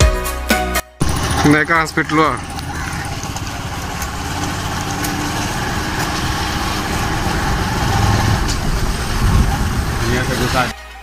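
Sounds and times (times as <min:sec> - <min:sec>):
motorcycle engine running: 0:01.0 - 0:10.7
road noise: 0:01.0 - 0:10.8
wind: 0:01.0 - 0:11.0.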